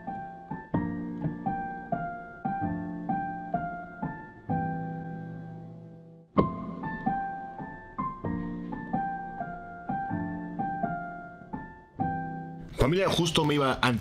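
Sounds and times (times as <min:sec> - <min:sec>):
digital piano chords: 0:00.0 - 0:14.0.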